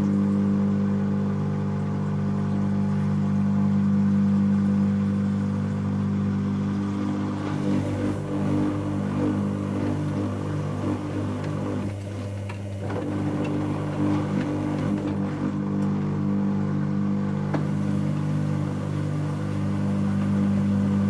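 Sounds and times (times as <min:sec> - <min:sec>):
washing machine motor humming: 0:00.0 - 0:21.0.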